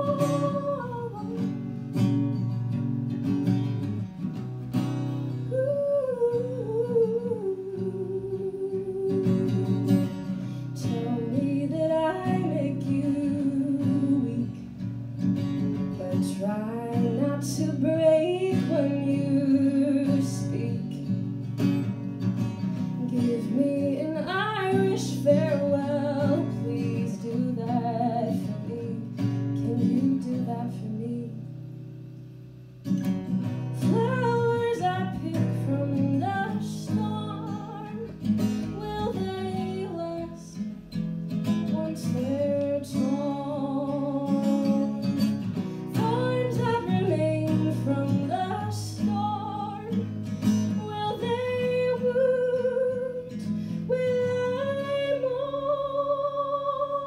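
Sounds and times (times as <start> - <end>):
woman singing: 0.0 - 2.6, 5.3 - 21.3, 22.6 - 31.6, 33.6 - 57.0
acoustic guitar strumming: 0.0 - 57.0.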